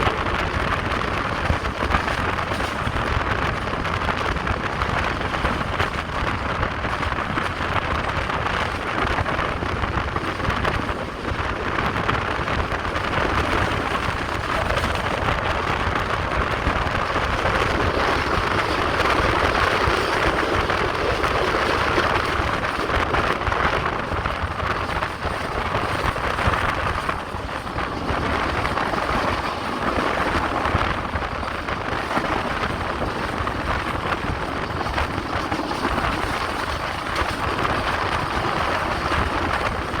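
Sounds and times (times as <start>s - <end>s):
train wheels rumbling on track: 0.0s - 40.0s.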